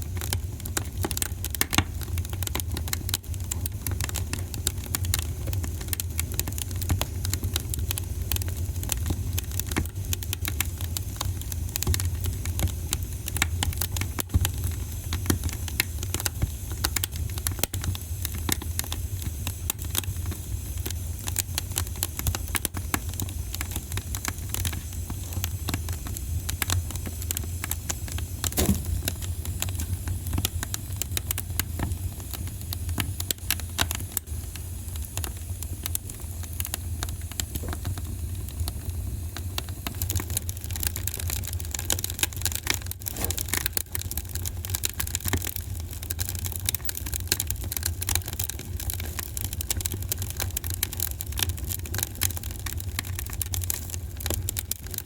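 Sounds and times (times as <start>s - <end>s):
low fire rumble: 0.0s - 55.0s
wood fire crackling and snapping: 0.0s - 55.0s.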